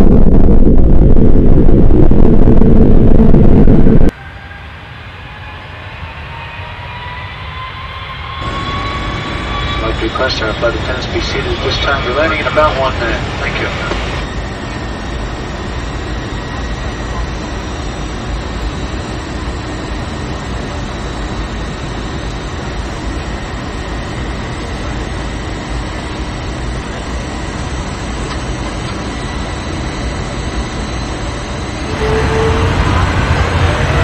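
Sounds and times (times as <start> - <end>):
airliner cabin engine drone: 0.0 - 34.0.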